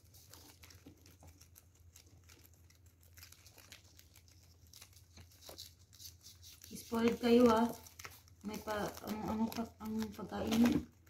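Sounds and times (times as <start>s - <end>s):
guinea pigs chewing greens: 0.0s - 11.0s.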